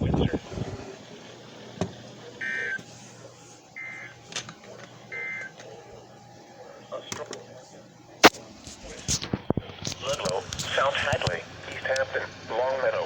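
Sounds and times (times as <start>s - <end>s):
radio static crackles: 0.0s - 13.0s.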